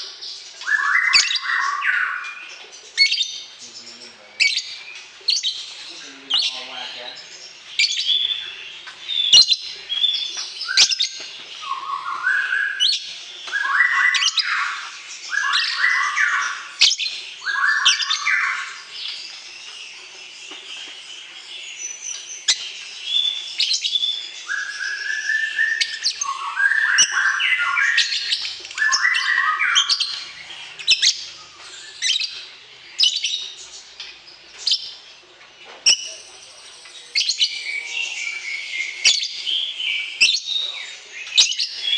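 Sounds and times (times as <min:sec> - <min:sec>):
songbirds chirping: 0:00.0 - 0:41.9.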